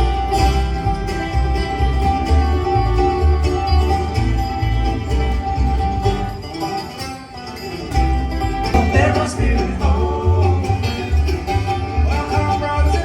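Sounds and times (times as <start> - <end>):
bluegrass banjo and guitar music: 0.0 - 13.0.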